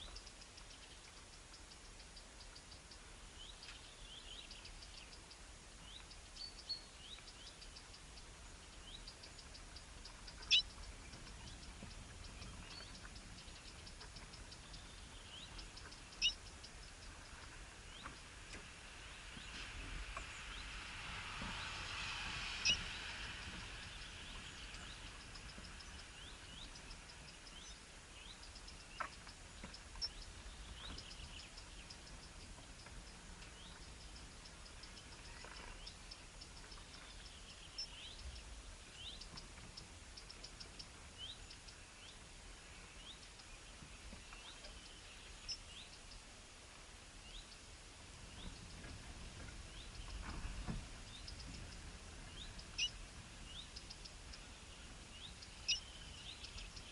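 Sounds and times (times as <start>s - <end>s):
small birds chirping: 0.0s - 46.5s, 47.2s - 56.9s.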